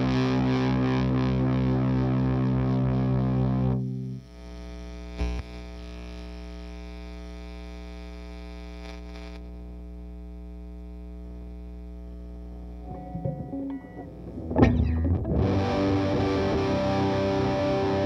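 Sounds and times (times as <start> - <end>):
guitar amplifier hum and buzz: 0.0 - 18.0.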